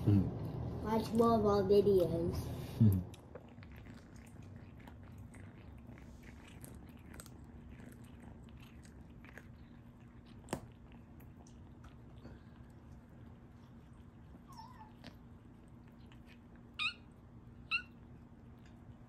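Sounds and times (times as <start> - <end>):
kitten gnawing on bone: 3.1 - 19.0.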